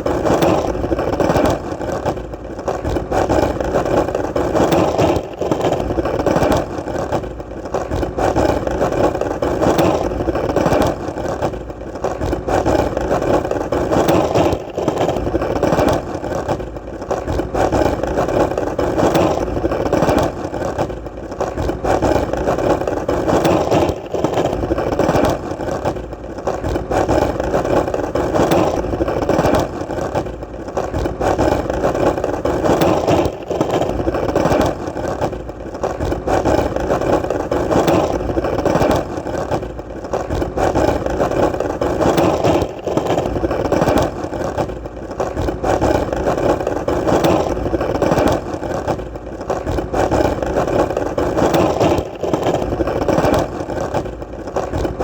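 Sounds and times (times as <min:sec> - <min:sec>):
skateboard wheels rolling on pavement: 0:00.0 - 0:55.0.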